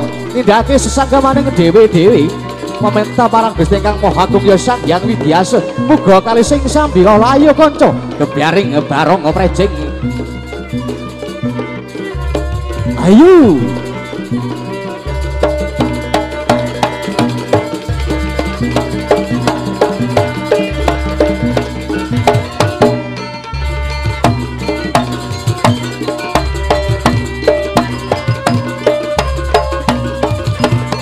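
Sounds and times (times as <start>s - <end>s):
drums beating fast rhythm: 0.0s - 31.0s
ringing metal percussion: 0.0s - 31.0s.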